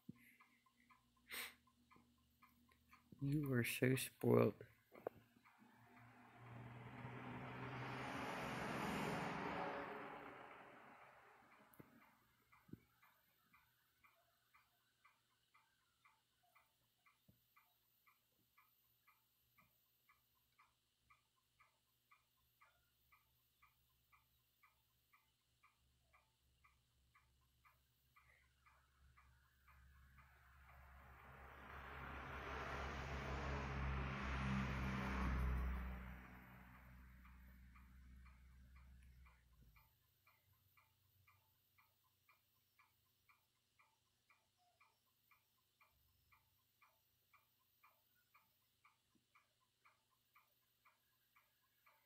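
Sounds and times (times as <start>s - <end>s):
faint even ticking: 0.0s - 52.0s.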